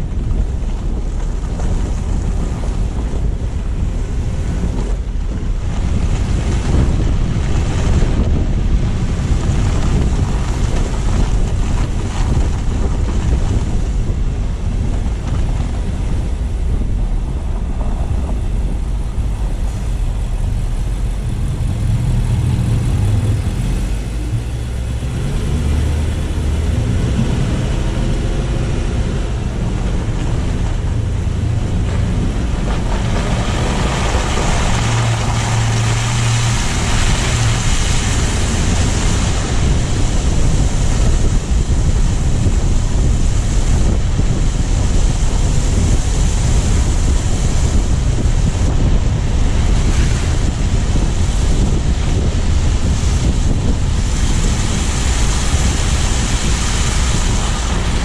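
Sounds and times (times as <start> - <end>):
car road noise rumble: 0.0 - 58.0
wind buffeting microphone: 0.0 - 58.0.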